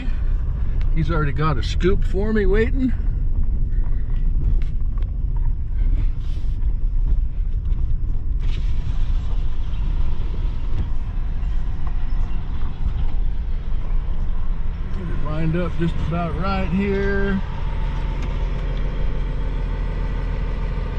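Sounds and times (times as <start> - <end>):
vehicle engine rumbling: 0.0 - 20.9.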